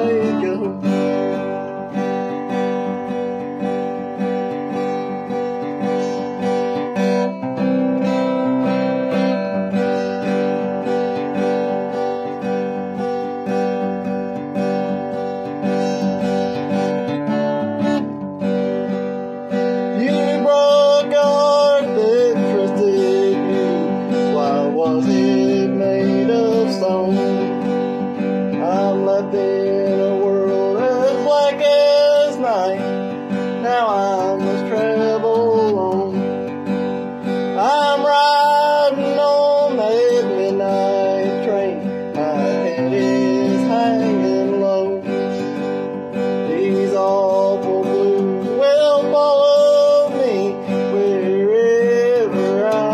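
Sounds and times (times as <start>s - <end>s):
man singing: 0.0s - 18.0s, 18.8s - 52.9s
acoustic guitar strummed: 0.0s - 52.9s.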